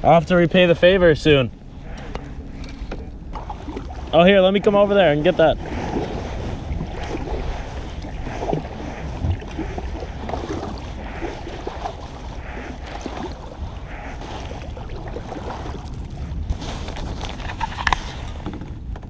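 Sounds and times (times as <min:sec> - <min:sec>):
wind rumble on microphone: 0:00.0 - 0:19.0
paddle splashes: 0:02.8 - 0:18.6.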